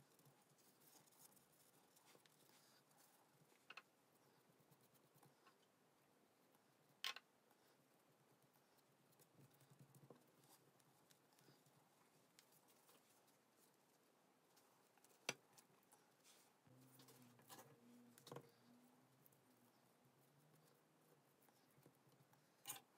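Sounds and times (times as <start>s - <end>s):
hands rustling pastry sheet: 0.0s - 5.5s, 7.7s - 22.9s.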